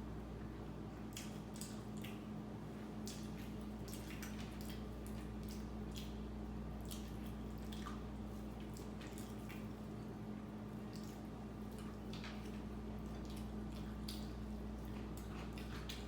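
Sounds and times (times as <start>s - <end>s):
steady low hum: 0.0s - 16.0s
wet chewing: 1.1s - 10.2s, 10.8s - 16.0s.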